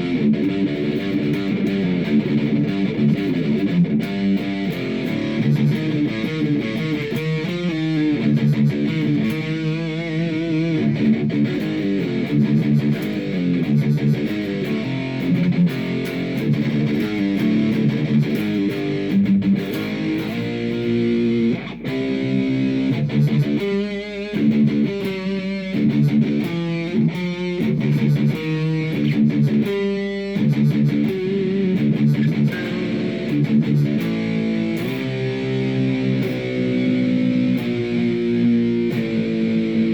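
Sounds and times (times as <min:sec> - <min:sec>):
guitar playing notes: 0:00.0 - 0:39.9.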